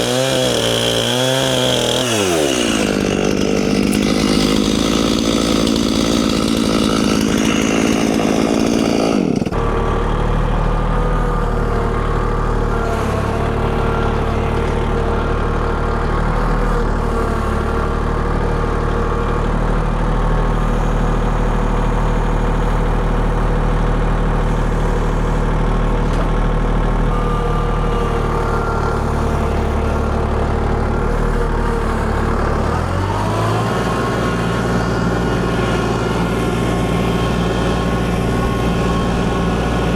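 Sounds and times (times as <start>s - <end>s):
chainsaw cutting: 0.0s - 39.9s
chainsaw engine idling: 0.0s - 39.9s.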